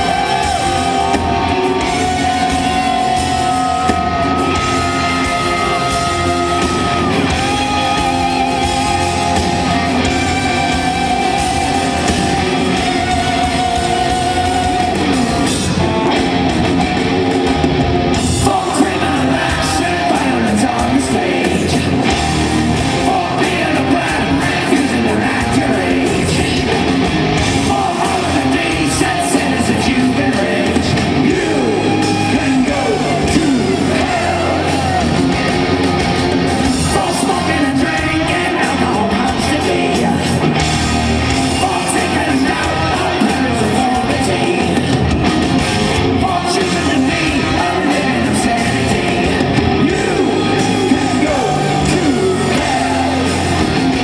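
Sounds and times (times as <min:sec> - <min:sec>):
man singing: 0:00.0 - 0:15.9, 0:18.2 - 0:35.1, 0:36.6 - 0:40.7, 0:41.3 - 0:45.2, 0:46.0 - 0:53.8
distorted electric guitars: 0:00.0 - 0:54.0
drums: 0:00.0 - 0:54.0.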